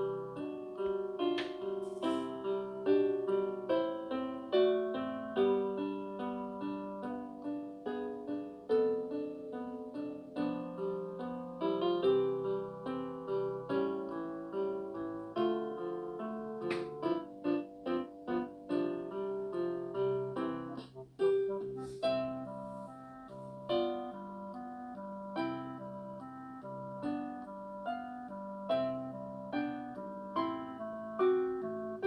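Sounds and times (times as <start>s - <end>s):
piano melody: 0.0s - 32.0s.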